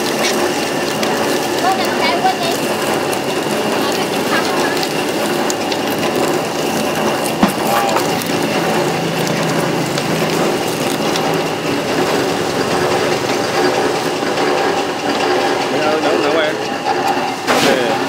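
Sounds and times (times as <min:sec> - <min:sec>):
machine clattering and grinding: 0:00.0 - 0:18.0.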